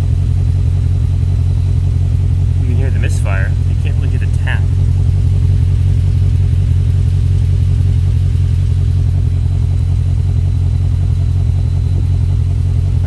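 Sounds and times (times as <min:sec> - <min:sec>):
engine exhaust with misfire: 0:00.0 - 0:13.0.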